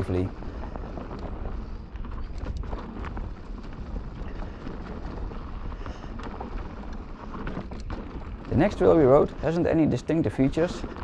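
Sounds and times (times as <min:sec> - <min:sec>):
bike clicks and rattles: 0:00.0 - 0:11.0
tyres rumbling on dirt: 0:00.0 - 0:11.0.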